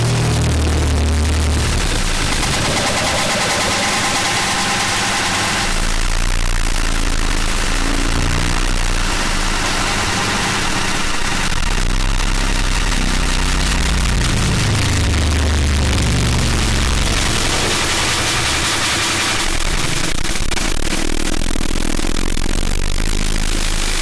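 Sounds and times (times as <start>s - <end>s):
harsh distorted noise music: 0.0s - 24.0s.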